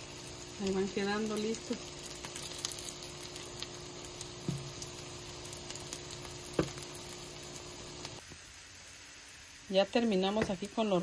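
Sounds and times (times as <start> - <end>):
fritters frying in hot oil: 0.0 - 11.0.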